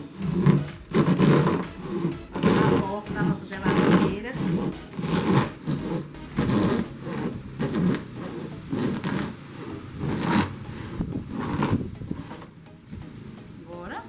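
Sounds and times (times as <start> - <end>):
scissors cutting cardboard: 0.0 - 12.6.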